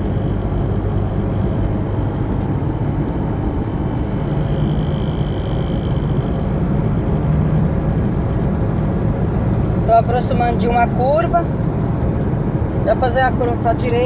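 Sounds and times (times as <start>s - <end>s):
engine and road noise drone: 0.0s - 14.0s.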